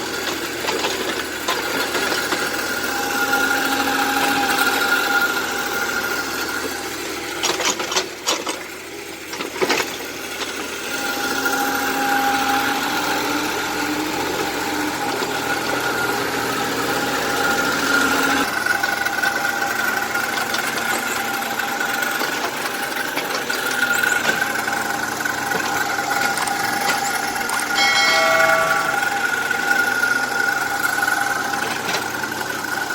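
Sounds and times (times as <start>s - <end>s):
excavator engine drone: 0.0s - 32.9s.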